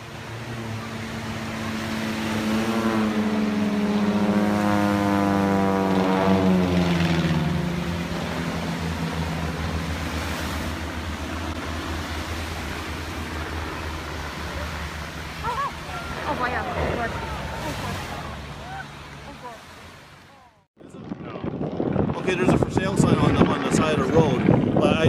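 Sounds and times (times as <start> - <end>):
propeller airplane engine droning: 0.0 - 25.0.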